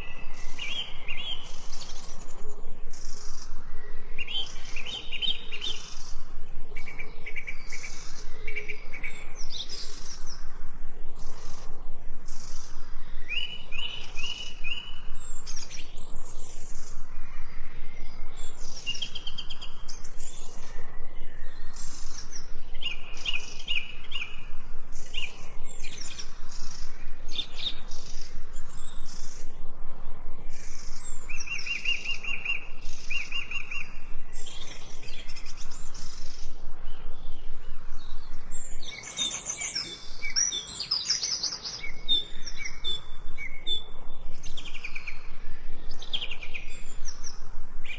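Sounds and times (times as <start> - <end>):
faint background hiss: 0.0 - 47.9
songbirds chirping and singing: 0.0 - 47.9.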